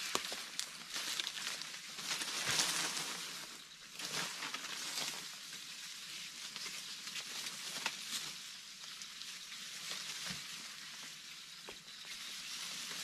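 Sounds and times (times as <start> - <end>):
grass rustling and swishing: 0.0 - 13.0.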